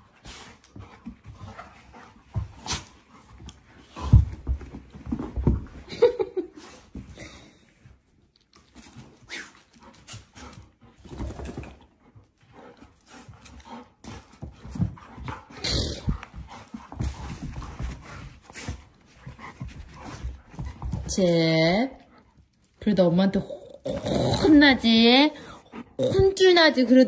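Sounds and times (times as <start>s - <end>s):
dogs play-fighting and scuffling: 0.0s - 27.0s.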